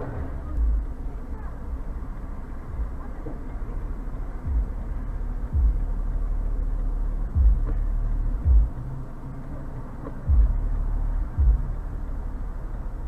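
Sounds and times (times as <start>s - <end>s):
dull low thumps: 0.0s - 13.0s
moving vehicle rumble: 0.0s - 13.0s.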